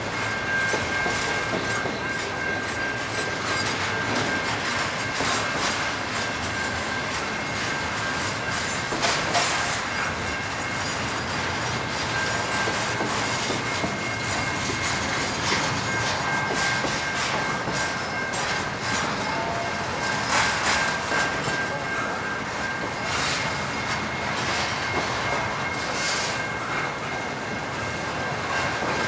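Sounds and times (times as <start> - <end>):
freight train wheels rumbling: 0.0 - 29.0
high wheel squeal: 0.0 - 29.0.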